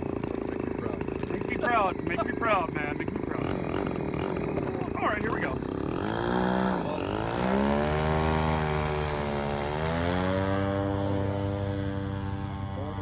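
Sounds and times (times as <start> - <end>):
model airplane engine at full power: 0.0 - 13.0.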